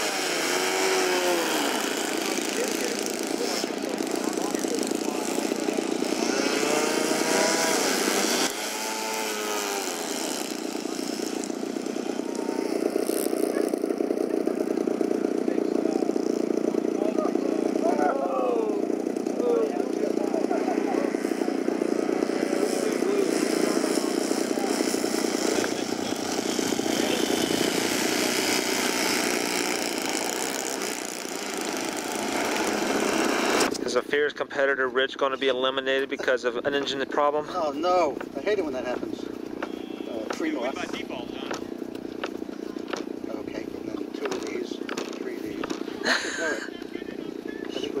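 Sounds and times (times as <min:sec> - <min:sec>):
model airplane engines buzzing: 0:00.0 - 0:34.0, 0:38.1 - 0:48.0.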